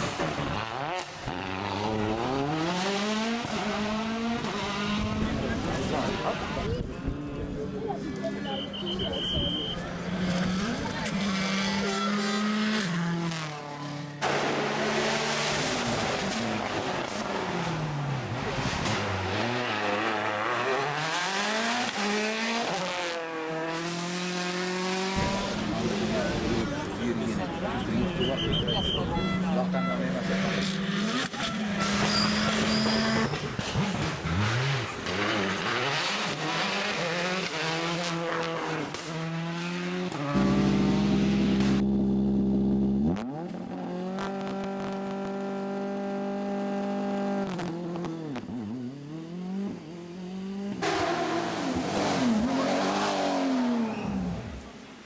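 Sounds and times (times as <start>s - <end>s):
rally car engine revving: 0.0s - 54.8s.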